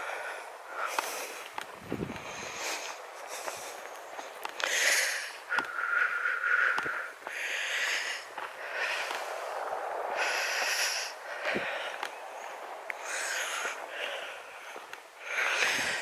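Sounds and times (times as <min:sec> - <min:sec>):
heavy breathing: 0:00.0 - 0:16.0
soft footfalls on path: 0:00.8 - 0:16.0.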